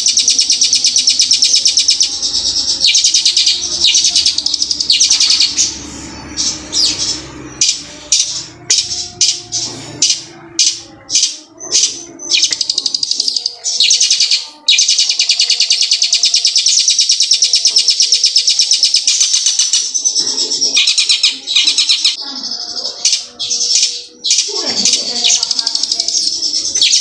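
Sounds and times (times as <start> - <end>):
bird singing with fast trills: 0.0 - 27.0.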